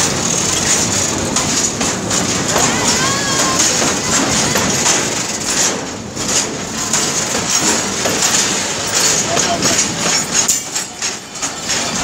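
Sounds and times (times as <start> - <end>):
freight train wheels rattling: 0.0 - 12.0.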